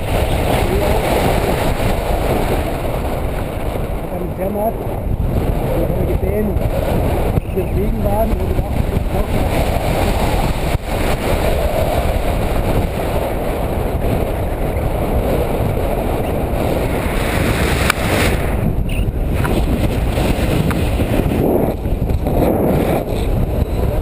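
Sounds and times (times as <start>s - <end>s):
wind buffeting camera microphone: 0.0s - 24.0s.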